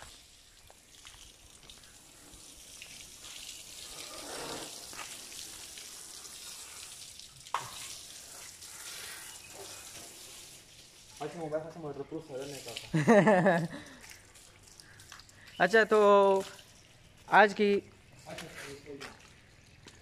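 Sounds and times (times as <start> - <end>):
hose water spraying on car wheel: 0.0 - 15.2, 18.2 - 19.3.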